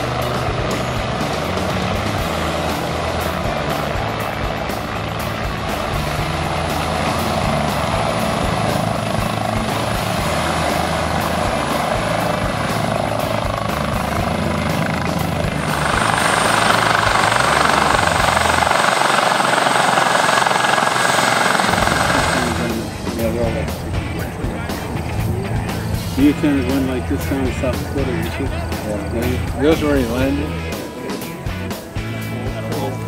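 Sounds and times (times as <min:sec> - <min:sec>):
high rushing noise with whine: 0:00.0 - 0:30.7
helicopter rotor beat: 0:00.0 - 0:33.0.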